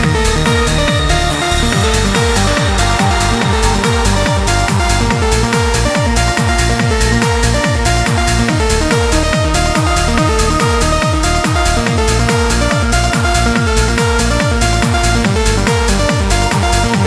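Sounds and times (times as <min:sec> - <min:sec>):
electronic trance music: 0:00.0 - 0:17.0
fast kick-drum beat: 0:00.0 - 0:17.0
sustained synth notes: 0:00.0 - 0:17.0.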